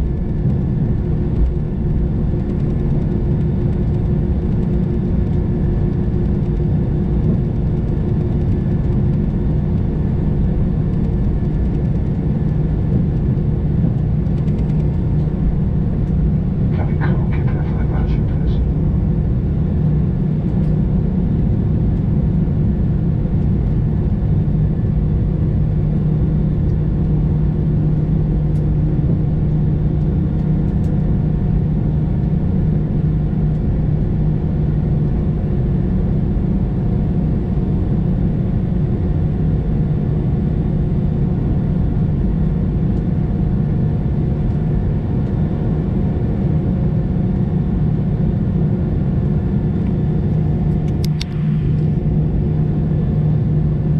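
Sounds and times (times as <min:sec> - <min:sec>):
aircraft cabin rumble: 0:00.0 - 0:53.9
low steady hum: 0:00.0 - 0:53.9.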